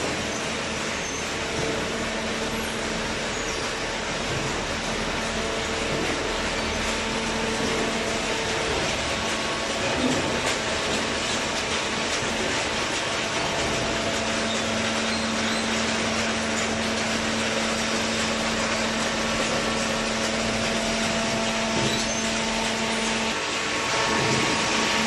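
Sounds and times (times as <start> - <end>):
hydraulic baler running: 0.0 - 25.0.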